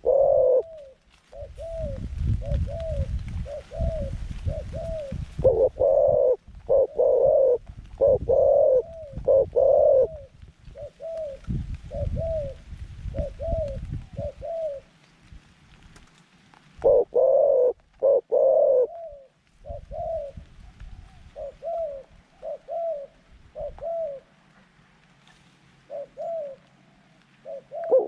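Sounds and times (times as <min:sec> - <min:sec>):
doves cooing: 0:00.0 - 0:15.0, 0:16.8 - 0:24.5, 0:25.8 - 0:28.0.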